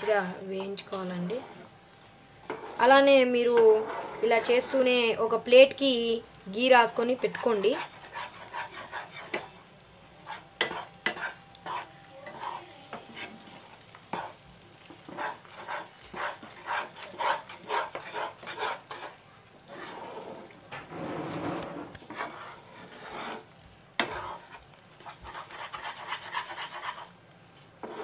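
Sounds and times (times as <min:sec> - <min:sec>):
spatula scraping pan: 0:00.0 - 0:01.8, 0:02.4 - 0:05.1, 0:06.9 - 0:28.0
light sizzle: 0:00.0 - 0:28.0.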